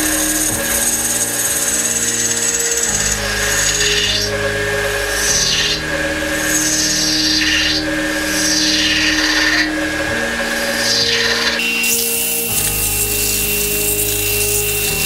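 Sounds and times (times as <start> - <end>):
turning tool cutting wood: 0.0 - 15.0
wood lathe spinning: 0.0 - 15.0.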